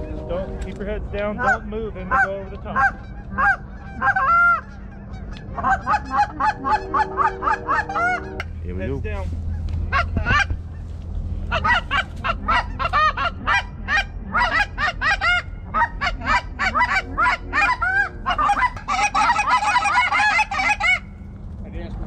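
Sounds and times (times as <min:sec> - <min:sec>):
geese honking: 0:00.0 - 0:21.2.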